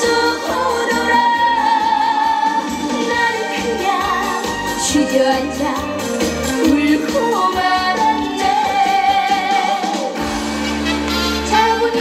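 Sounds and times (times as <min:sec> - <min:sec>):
woman singing into microphone: 0:00.0 - 0:10.2, 0:11.4 - 0:12.0
backing track with steady beat: 0:00.0 - 0:12.0.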